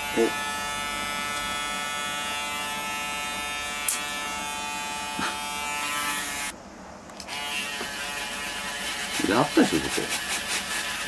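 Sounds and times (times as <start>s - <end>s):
electric shaver buzzing: 0.0s - 6.5s, 7.2s - 11.0s.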